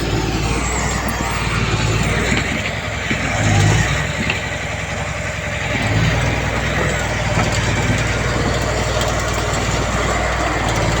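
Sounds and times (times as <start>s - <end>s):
diesel machinery engine running: 0.0s - 11.0s.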